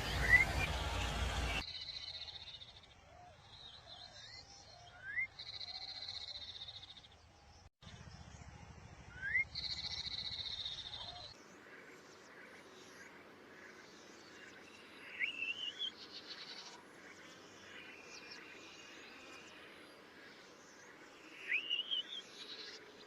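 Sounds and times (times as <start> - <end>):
songbird buzzy trills: 0.0 - 23.0.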